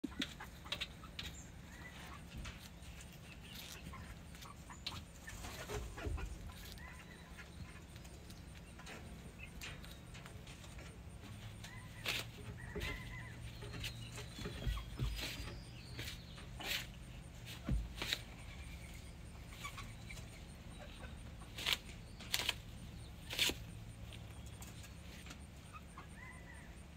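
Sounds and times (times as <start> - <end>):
light scratches and ticks: 0.0 - 26.0
rooster chirping softly: 0.0 - 26.9
steady low hum: 0.0 - 26.9.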